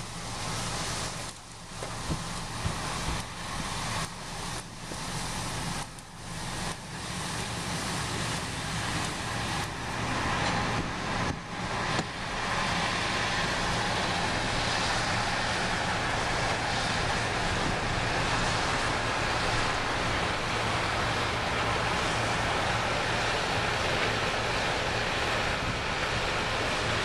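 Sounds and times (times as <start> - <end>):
broad rushing noise: 0.0 - 27.0
diesel engines droning: 0.0 - 27.0.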